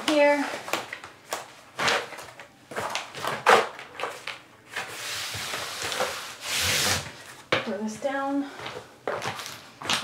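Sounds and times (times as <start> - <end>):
plastic membrane scuffing and crinkling: 0.0 - 10.0.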